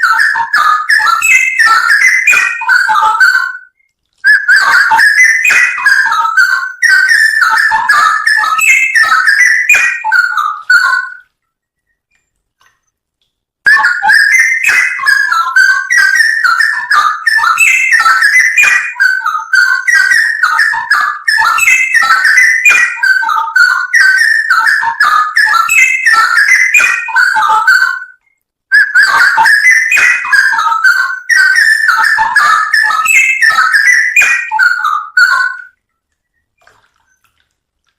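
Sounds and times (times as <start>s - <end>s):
bird singing whistled phrases: 0.0s - 12.3s, 13.7s - 37.2s.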